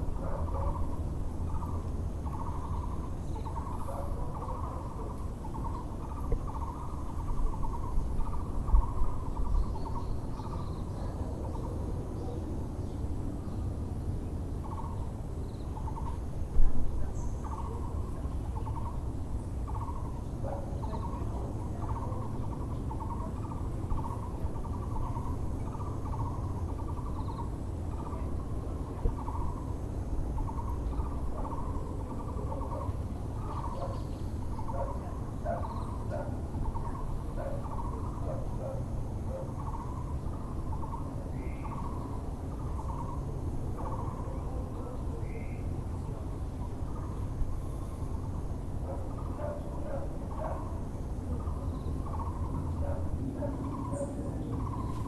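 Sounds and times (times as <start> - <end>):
low background rumble: 0.0 - 55.0.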